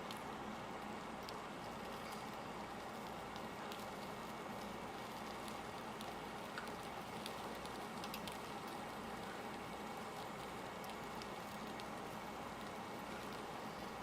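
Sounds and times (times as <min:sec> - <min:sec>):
eel sizzling on a grill: 0:00.0 - 0:14.0
small pops and crackles: 0:00.0 - 0:14.0.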